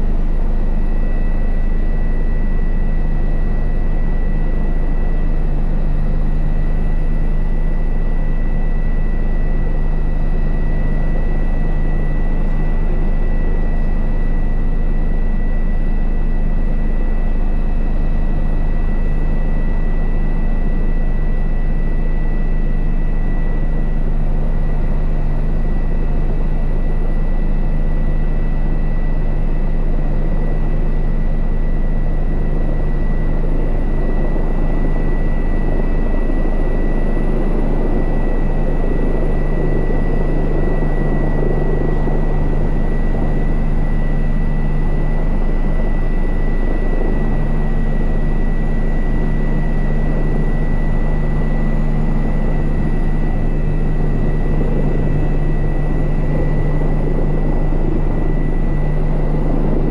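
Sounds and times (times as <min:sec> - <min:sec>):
helicopter rotor drone: 0:00.0 - 0:59.9
high turbine whine: 0:00.0 - 0:59.9.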